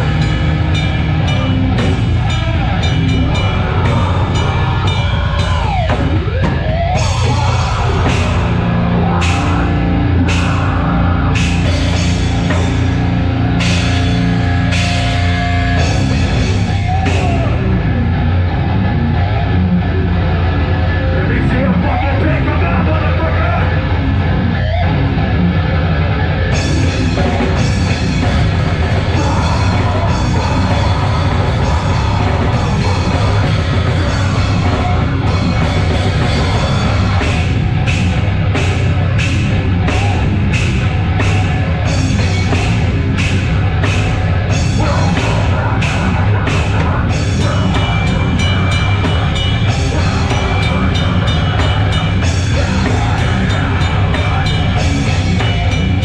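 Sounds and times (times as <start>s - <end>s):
drums and cymbals beat: 0.0s - 17.9s, 26.5s - 56.0s
heavy metal band playing: 0.0s - 56.0s.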